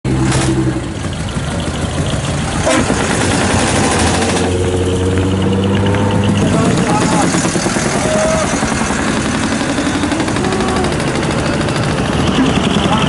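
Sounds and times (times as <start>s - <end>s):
diesel truck engines droning: 0.0s - 13.0s.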